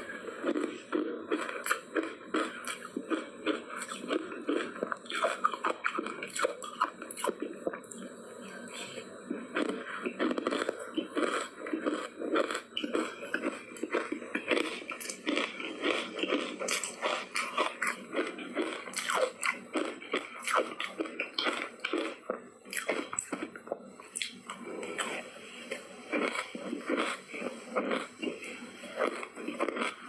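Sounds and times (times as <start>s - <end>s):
ice crunching while chewed: 0.0s - 8.1s, 9.3s - 30.0s.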